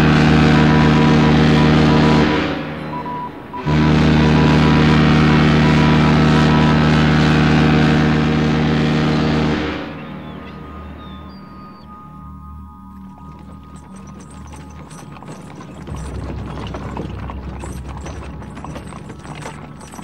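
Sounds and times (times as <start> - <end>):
low-pitched horn blast: 0.0 - 20.0
machine-like drone: 0.0 - 20.0.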